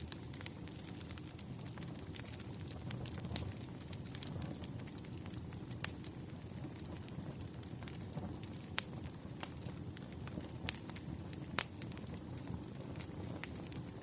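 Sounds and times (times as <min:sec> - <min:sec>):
burning logs crackling and popping: 0:00.0 - 0:14.0
low rumble of flames: 0:00.0 - 0:14.0.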